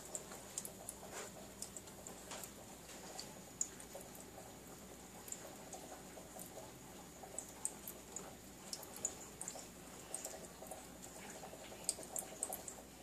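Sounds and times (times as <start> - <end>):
cat lapping water: 0.0 - 13.0.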